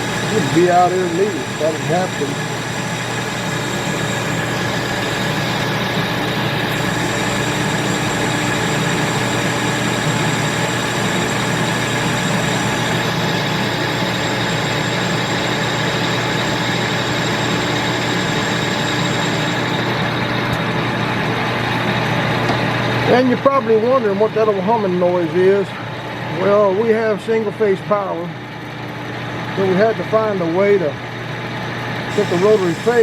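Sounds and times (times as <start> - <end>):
lathe running: 0.0 - 33.0
rotary phase converter hum: 0.0 - 33.0
steady whining tones: 0.0 - 33.0.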